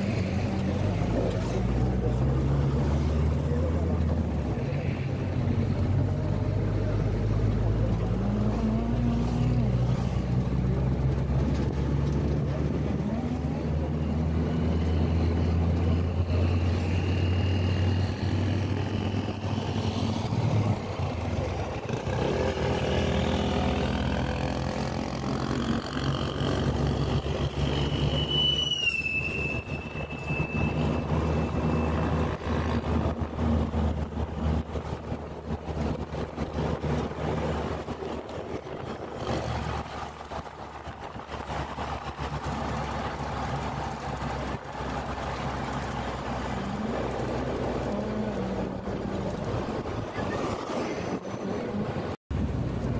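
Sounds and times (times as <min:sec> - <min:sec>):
passing traffic: 0:00.0 - 0:52.9
road noise: 0:00.0 - 0:52.9
vehicle engine hum: 0:00.0 - 0:52.9.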